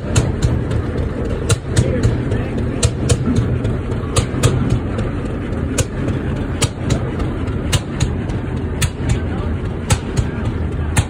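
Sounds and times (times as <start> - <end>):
stationary engine chugging: 0.0 - 11.0.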